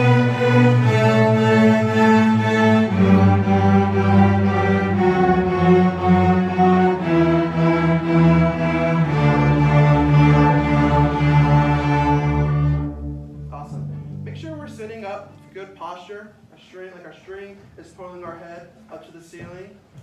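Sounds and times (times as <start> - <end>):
string orchestra playing a scale: 0.0 - 16.1.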